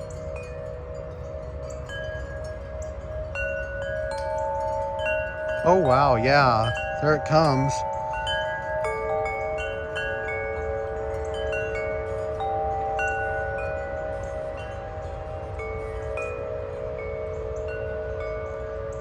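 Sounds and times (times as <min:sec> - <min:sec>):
wind chimes ringing: 0:00.0 - 0:19.0.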